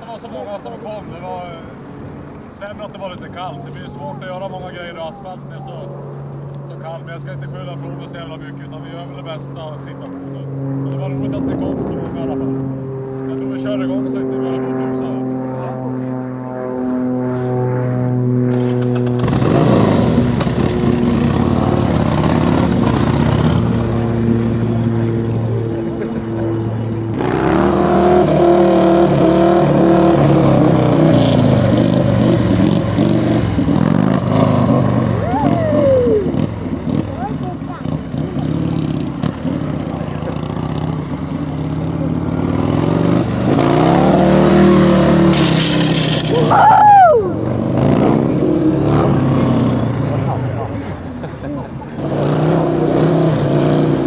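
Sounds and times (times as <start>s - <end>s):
motorcycle engine revving: 6.8s - 54.0s.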